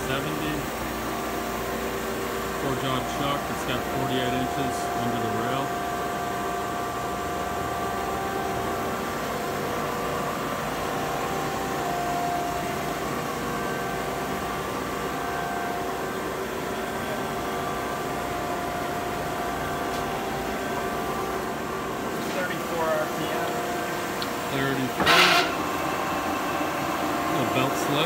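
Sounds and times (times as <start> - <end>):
lathe motor and gearing whining: 0.0 - 28.0.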